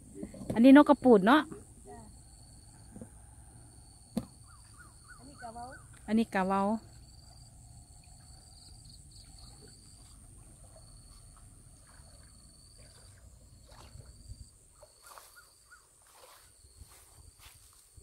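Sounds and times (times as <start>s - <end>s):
insects whining: 0.0s - 17.8s
insect trill: 0.0s - 17.9s.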